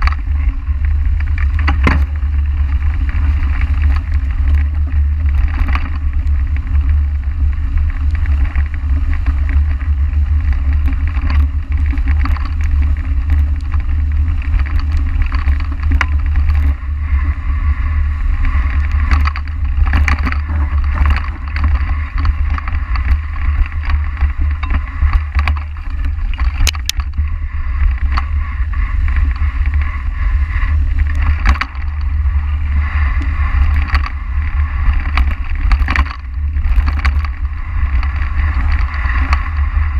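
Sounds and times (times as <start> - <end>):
bike clicks and knocks: 0.0 - 39.9
tyres over dry leaves: 0.0 - 39.9
wind rumble on microphone: 0.0 - 39.9.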